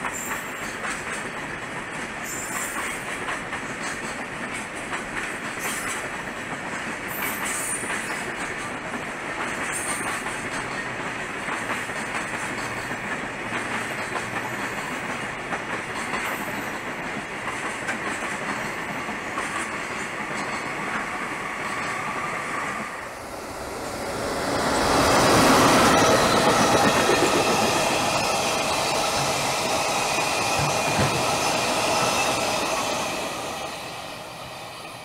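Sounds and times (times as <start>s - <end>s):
freight train passing: 0.0s - 35.0s
train wheels clattering: 0.0s - 35.0s.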